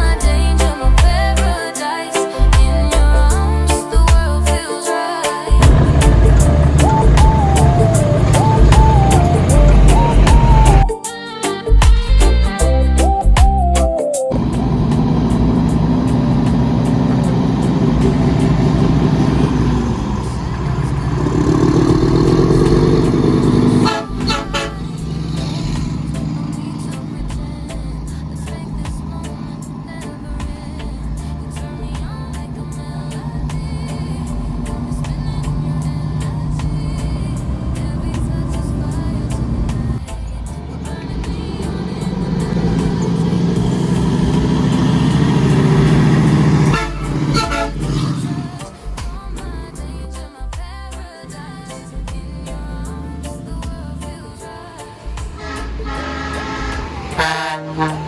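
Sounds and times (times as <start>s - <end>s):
music playing: 0.0s - 58.0s
engine stuttering rattle: 5.5s - 10.9s, 14.3s - 54.4s, 55.0s - 58.0s
truck diesel engine running: 5.5s - 10.9s, 14.3s - 58.0s.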